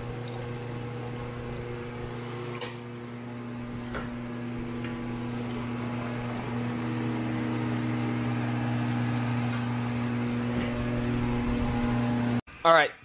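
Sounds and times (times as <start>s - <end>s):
grinding machine motor humming: 0.0s - 12.4s.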